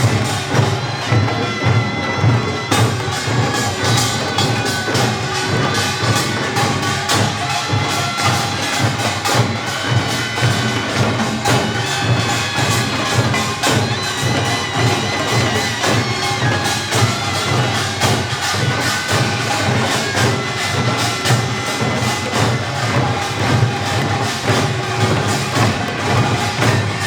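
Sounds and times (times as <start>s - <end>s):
fast percussion band: 0.0s - 27.0s
reedy shawm melody: 0.0s - 27.0s.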